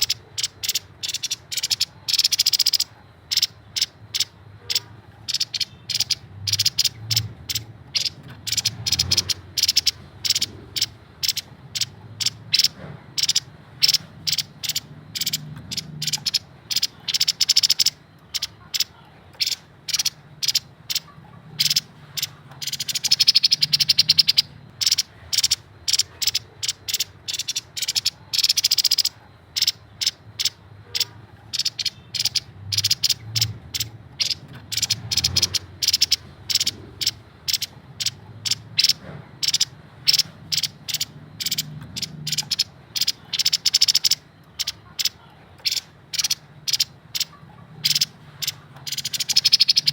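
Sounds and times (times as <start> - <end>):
bird chattering: 0.0 - 49.9.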